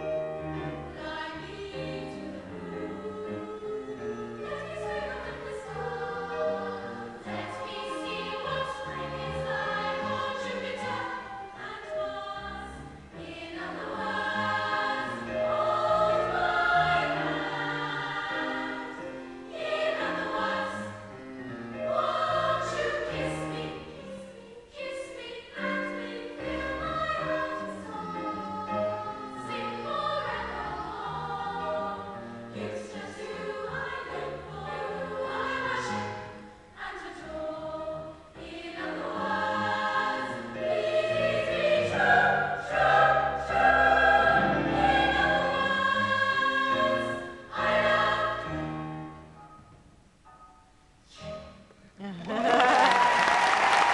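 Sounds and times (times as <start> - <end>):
choir singing in harmony: 0.0 - 49.7, 52.8 - 53.9.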